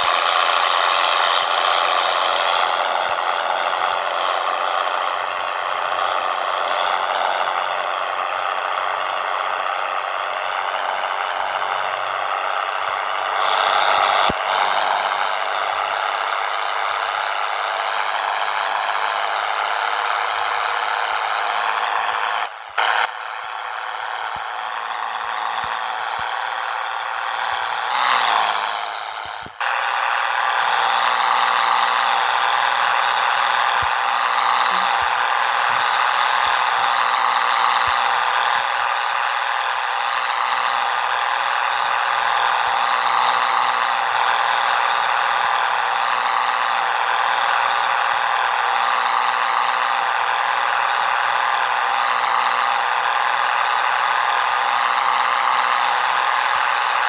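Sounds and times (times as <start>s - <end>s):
truck diesel engine drone with rattle: 0.0s - 57.0s.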